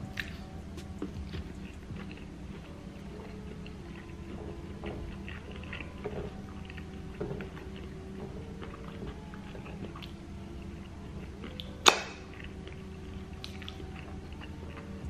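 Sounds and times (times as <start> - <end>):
man chewing food: 0.0 - 15.0
soft background music: 0.0 - 15.0.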